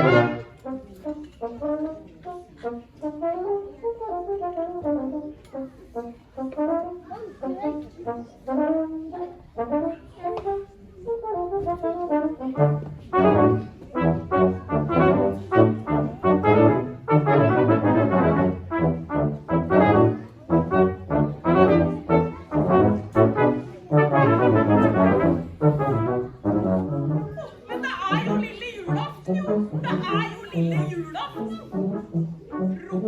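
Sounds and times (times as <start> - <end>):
brass quartet playing: 0.0 - 33.0.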